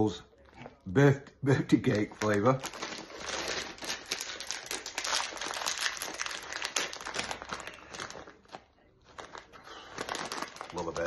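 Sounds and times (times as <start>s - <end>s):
plastic snack packet crinkling: 1.5s - 11.0s.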